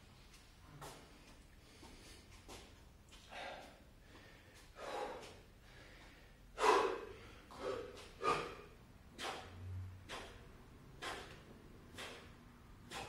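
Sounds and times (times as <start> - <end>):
man breathing hard: 0.9 - 13.0.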